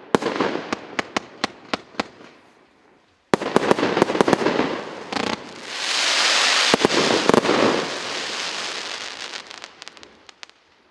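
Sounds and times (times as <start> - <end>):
fireworks bangs: 0.0 - 2.4, 3.3 - 10.9
dense rush of fireworks: 0.0 - 10.9.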